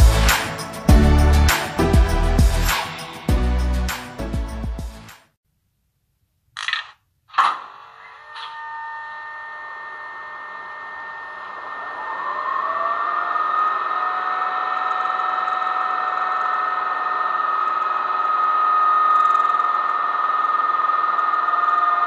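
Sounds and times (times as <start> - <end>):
rising electric whine: 0.0 - 4.6, 7.6 - 22.0.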